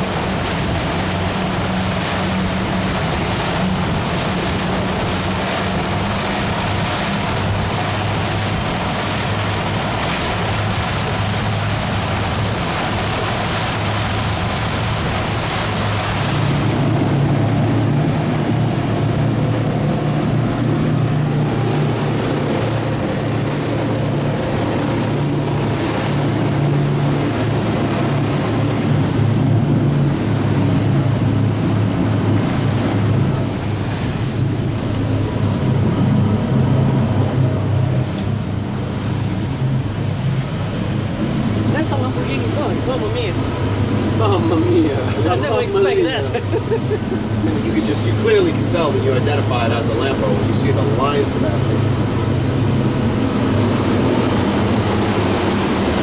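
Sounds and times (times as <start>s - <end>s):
motorboat engines running: 0.0s - 56.0s
rushing water: 0.0s - 56.0s
wind: 0.0s - 56.0s.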